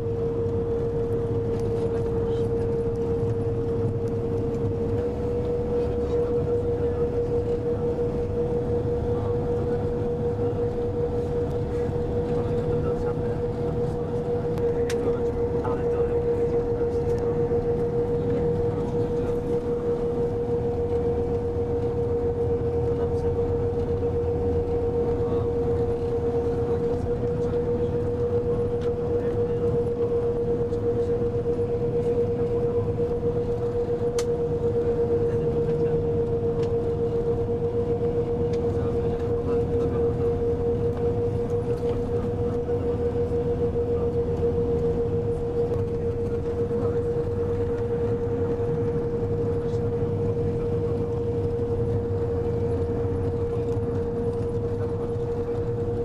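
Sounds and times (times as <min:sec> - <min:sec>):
constant hum: 0:00.0 - 0:56.0
engine and road rumble: 0:00.0 - 0:56.0.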